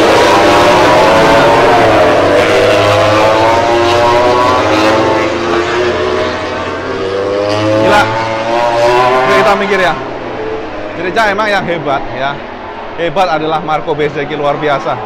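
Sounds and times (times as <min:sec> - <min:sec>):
racing motorcycles passing at high revs: 0:00.0 - 0:13.0.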